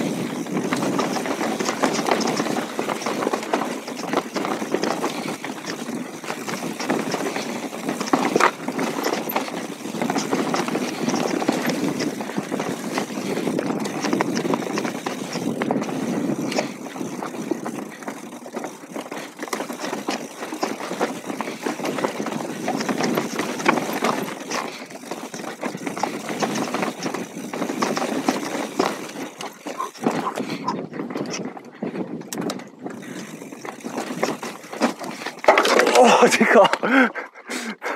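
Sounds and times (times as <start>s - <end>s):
tyres rolling over stones: 0.0s - 31.4s, 32.4s - 37.0s
bike rattling and knocking: 0.0s - 37.1s.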